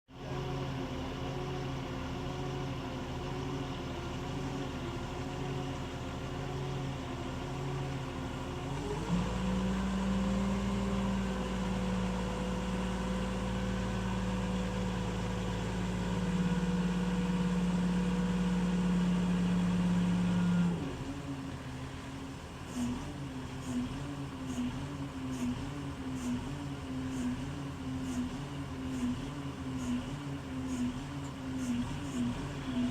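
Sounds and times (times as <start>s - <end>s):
engine idling and revving: 0.1s - 32.9s.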